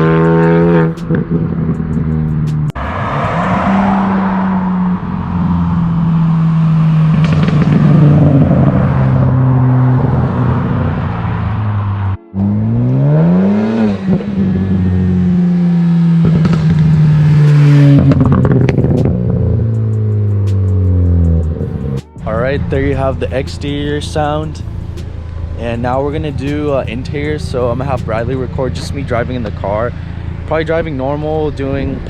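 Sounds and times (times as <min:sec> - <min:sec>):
car exhaust at full throttle: 0:00.0 - 0:32.0.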